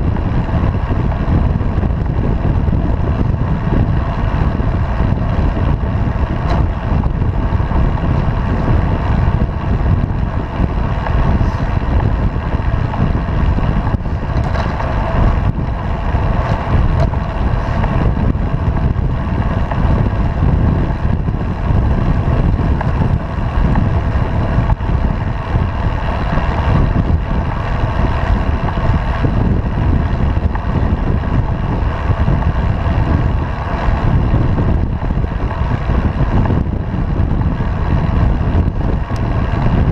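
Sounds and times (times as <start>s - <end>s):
road rumble: 0.0s - 39.9s
wind rush on microphone: 0.0s - 39.9s.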